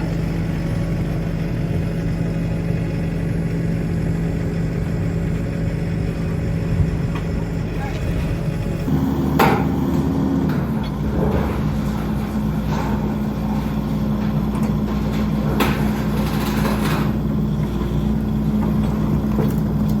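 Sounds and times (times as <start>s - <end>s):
skid steer engine running: 0.0s - 20.0s.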